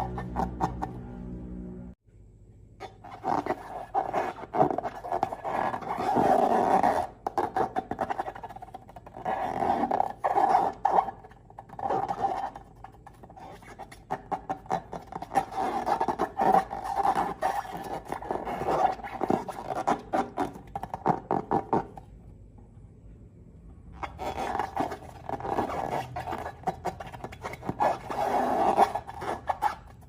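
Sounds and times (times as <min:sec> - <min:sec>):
rubber balloons squeaking: 0:00.0 - 0:01.0, 0:02.8 - 0:22.0, 0:24.0 - 0:30.0.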